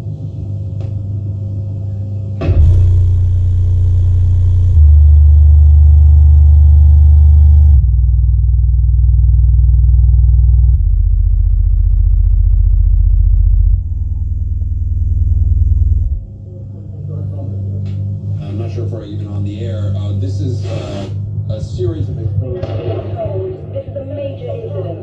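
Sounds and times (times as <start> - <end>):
deep bass rumble from subwoofer: 0.0 - 22.3.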